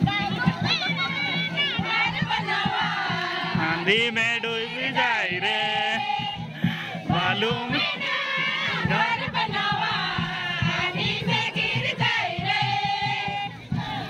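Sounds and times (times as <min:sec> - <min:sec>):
women singing in chorus: 0:00.0 - 0:14.0.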